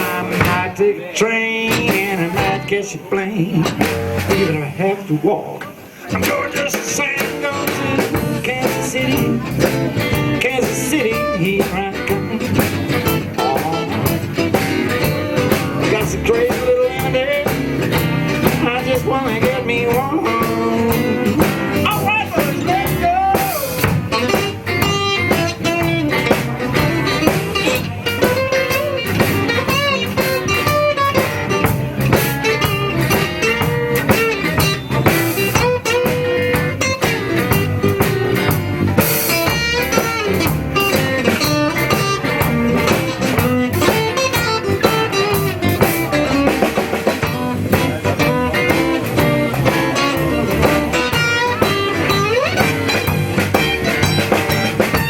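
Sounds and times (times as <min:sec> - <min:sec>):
drum kit: 0:00.0 - 0:04.8, 0:05.5 - 0:55.0
blues guitar lead: 0:00.0 - 0:55.0.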